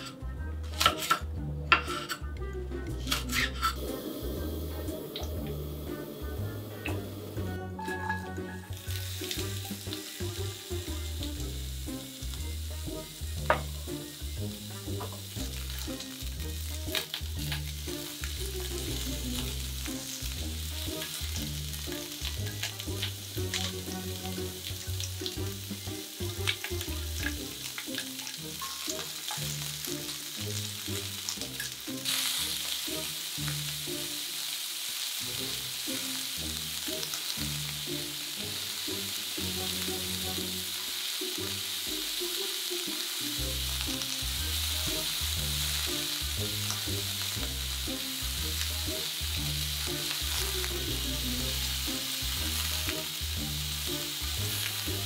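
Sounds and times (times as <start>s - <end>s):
food sizzling in a skillet: 0.0s - 55.0s.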